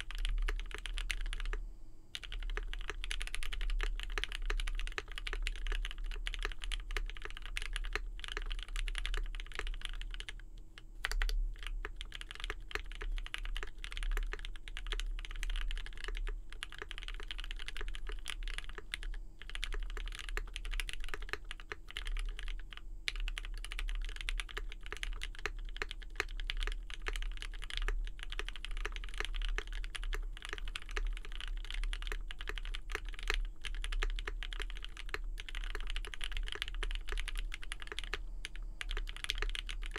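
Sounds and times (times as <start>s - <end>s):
mechanical keyboard typing: 0.0s - 10.4s, 11.0s - 39.9s
faint steady hum: 0.0s - 39.9s.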